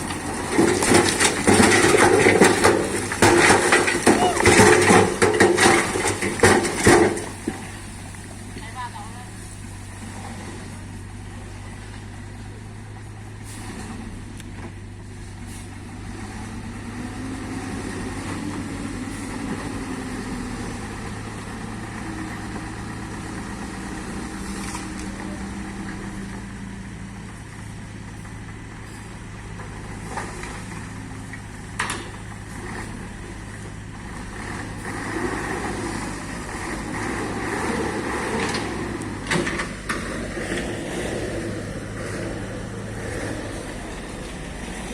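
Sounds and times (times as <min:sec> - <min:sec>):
diesel machine engines running: 0:00.0 - 0:44.9.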